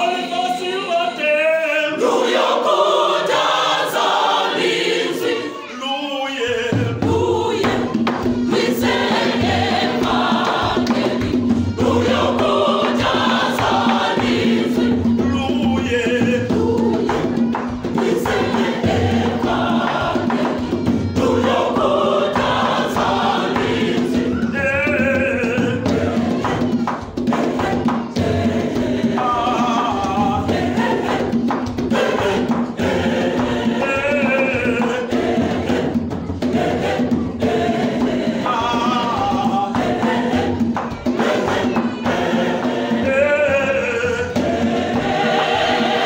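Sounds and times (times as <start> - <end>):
mixed choir singing gospel: 0.0 - 46.0
wooden hand drums beat: 2.0 - 5.4, 6.4 - 46.0.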